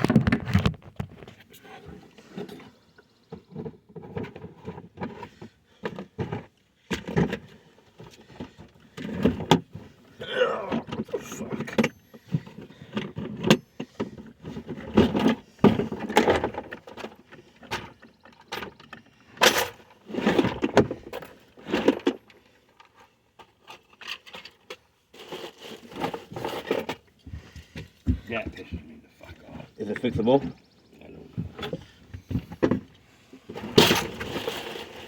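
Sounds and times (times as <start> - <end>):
plastic and metal items clattering: 0.0 - 28.3, 31.4 - 35.0.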